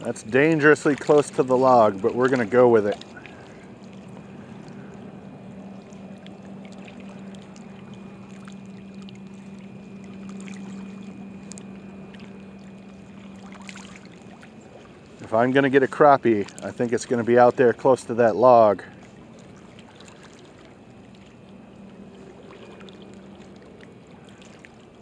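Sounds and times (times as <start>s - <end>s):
small waves lapping: 0.0s - 25.0s
steady low hum: 0.0s - 25.0s.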